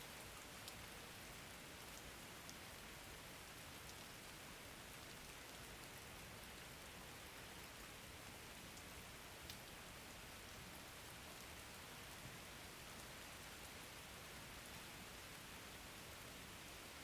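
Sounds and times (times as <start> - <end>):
soft rain patter: 0.0 - 17.0.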